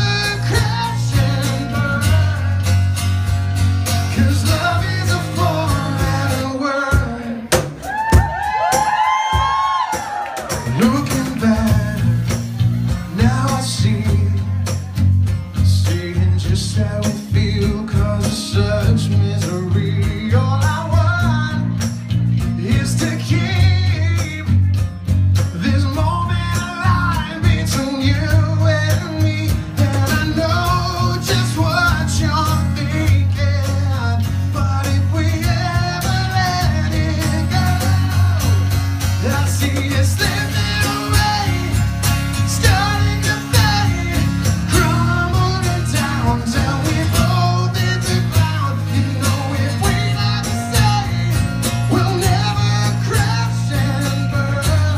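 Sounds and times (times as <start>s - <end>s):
man singing: 0.0s - 3.0s, 3.9s - 7.7s, 10.5s - 54.9s
electric bass low notes: 0.0s - 7.5s, 10.7s - 54.9s
strummed acoustic guitars: 0.0s - 54.9s.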